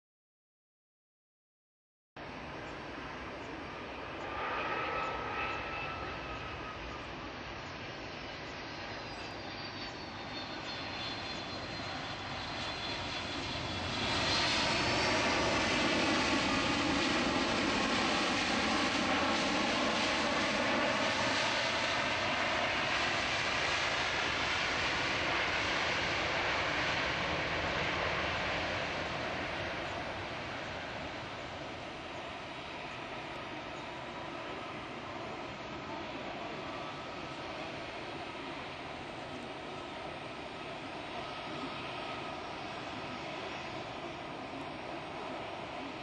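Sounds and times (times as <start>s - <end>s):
jet engines roaring: 2.3s - 46.0s.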